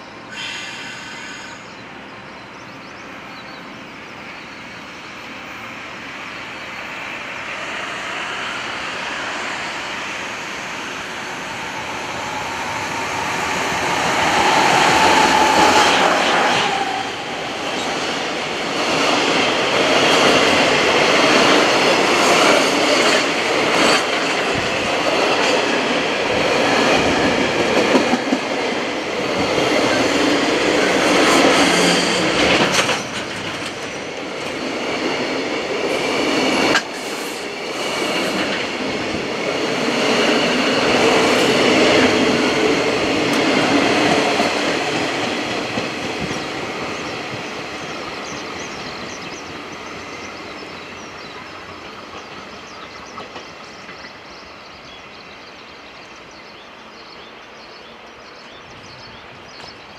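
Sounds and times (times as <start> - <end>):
electric locomotive passing: 0.0 - 59.9.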